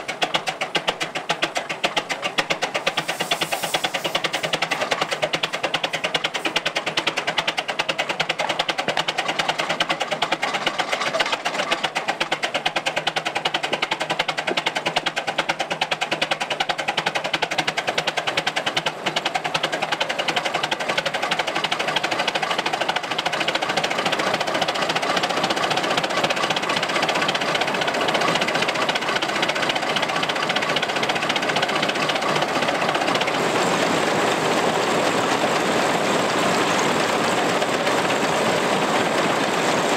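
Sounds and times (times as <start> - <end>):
threshing machine clatter: 0.0 - 39.9
tractor engine running under load: 0.0 - 39.9.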